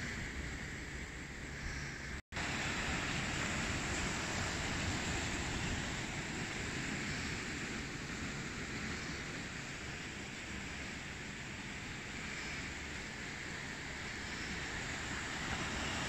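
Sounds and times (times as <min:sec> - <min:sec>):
sea surf: 0:00.0 - 0:16.0
wind on microphone: 0:00.0 - 0:16.0.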